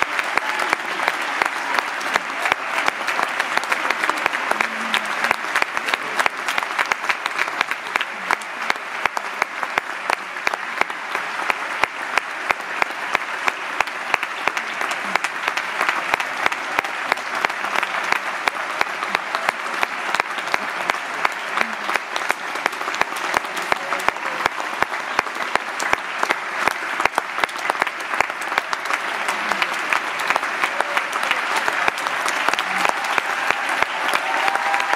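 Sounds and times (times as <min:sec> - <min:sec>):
audience applauding: 0:00.0 - 0:34.9.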